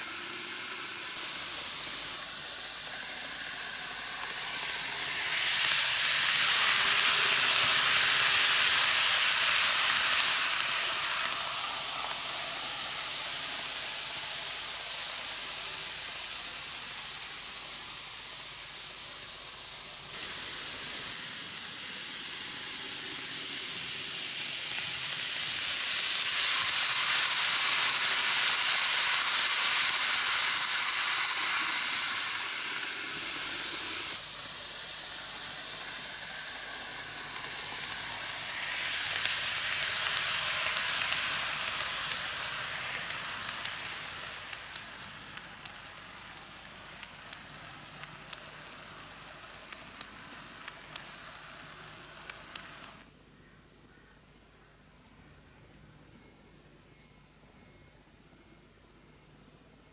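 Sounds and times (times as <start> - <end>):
model train whirring: 0.0 - 53.2.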